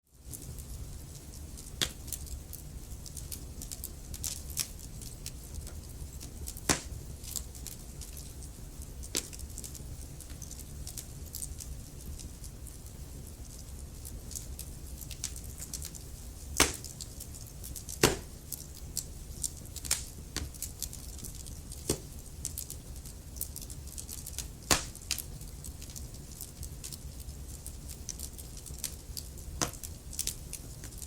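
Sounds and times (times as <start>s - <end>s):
fire popping: 0.2s - 31.0s
firewood crackling: 0.2s - 31.0s
low fire rumble: 0.2s - 31.0s.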